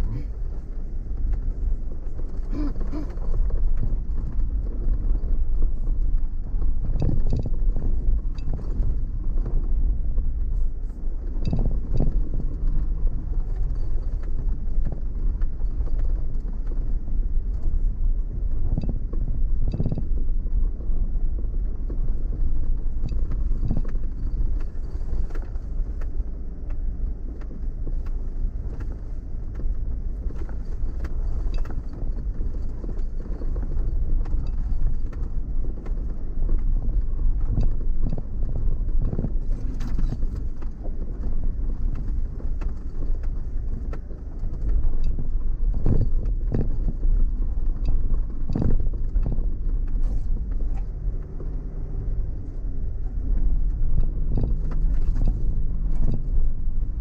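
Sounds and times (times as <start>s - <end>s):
vehicle rumbling over dirt track: 0.0s - 57.0s.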